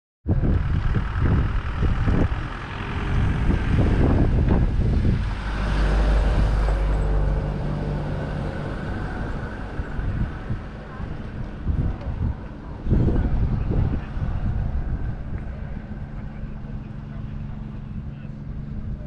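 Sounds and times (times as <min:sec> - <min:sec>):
wind buffeting microphone: 0:00.2 - 0:19.0
engine rumble: 0:00.3 - 0:19.0.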